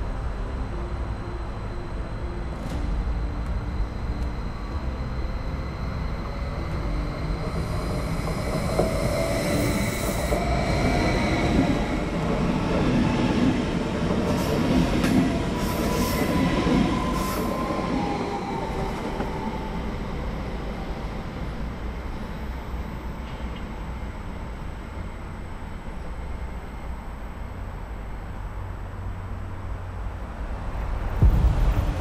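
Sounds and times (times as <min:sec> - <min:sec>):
train running on curved track: 0:00.0 - 0:32.0.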